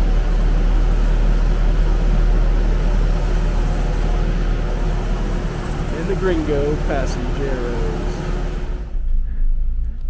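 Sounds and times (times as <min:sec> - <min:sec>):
cable car machinery rumbling: 0:00.0 - 0:10.0.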